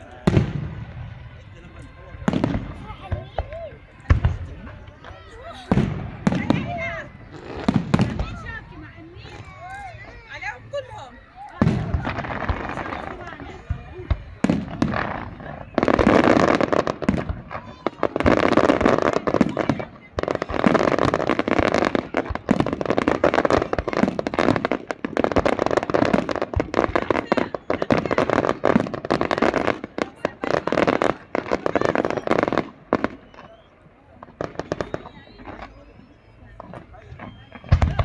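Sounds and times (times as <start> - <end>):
fireworks crackling and banging: 0.0 - 38.0.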